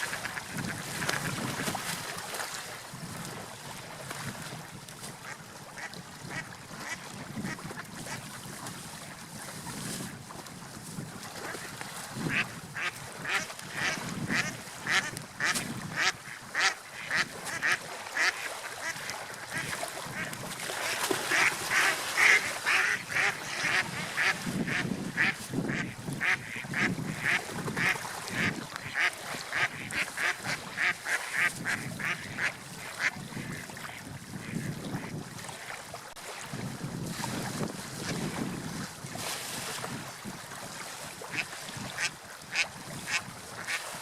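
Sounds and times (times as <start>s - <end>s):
surf: 0.0s - 44.0s
wind: 0.0s - 44.0s.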